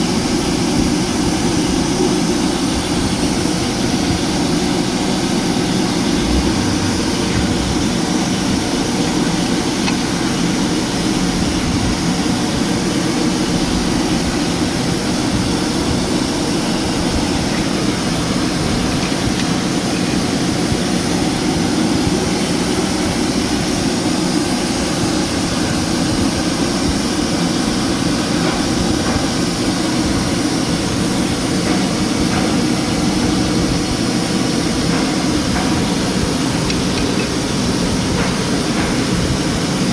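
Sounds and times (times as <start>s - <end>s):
engine running with knocking: 0.0s - 39.9s.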